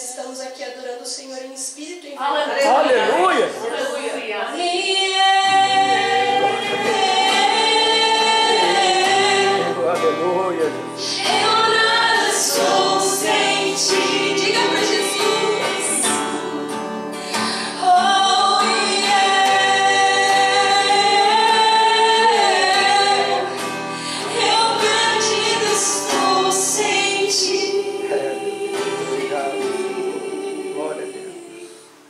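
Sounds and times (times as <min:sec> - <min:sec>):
acoustic guitar: 0:02.5 - 0:32.0
woman singing: 0:03.6 - 0:09.8, 0:11.0 - 0:32.0.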